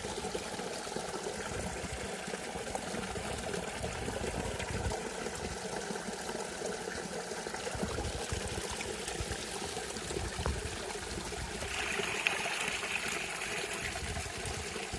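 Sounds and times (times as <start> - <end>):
forest stream flowing: 0.0 - 14.9.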